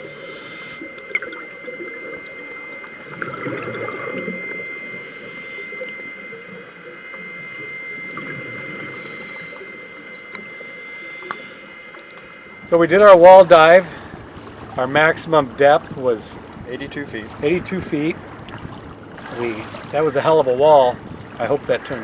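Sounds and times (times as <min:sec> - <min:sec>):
faint bubbling: 0:00.0 - 0:22.0
high whine: 0:00.0 - 0:22.0
muffled underwater water wash: 0:00.0 - 0:22.0.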